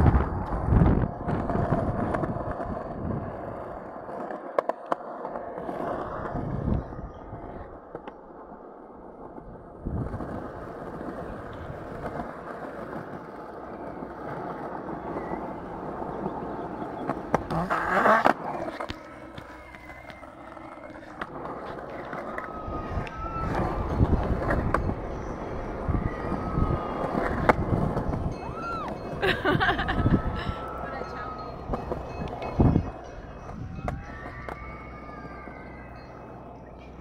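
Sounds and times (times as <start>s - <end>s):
skateboard clattering: 0.0s - 37.0s
skateboard wheels rolling on concrete: 0.0s - 37.0s.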